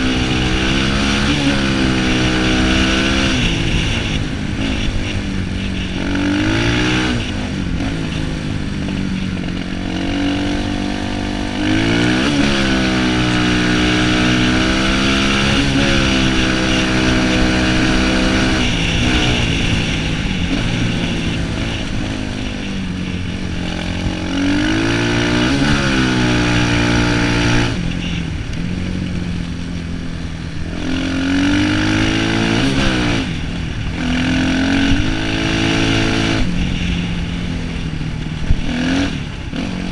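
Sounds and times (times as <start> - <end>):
motocross bike engine revving: 0.0 - 29.4, 30.5 - 37.8, 38.4 - 39.9.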